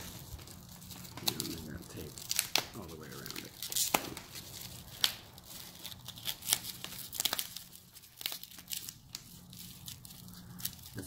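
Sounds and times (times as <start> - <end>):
plastic wrap crinkling: 0.0 - 11.0
tape being peeled and torn: 0.0 - 11.0.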